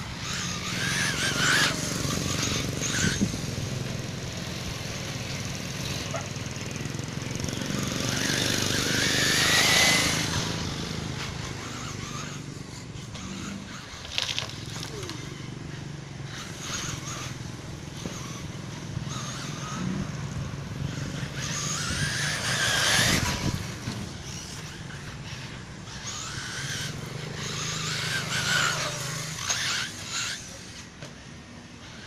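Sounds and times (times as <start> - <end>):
electric rc car motor whine: 0.0 - 32.0.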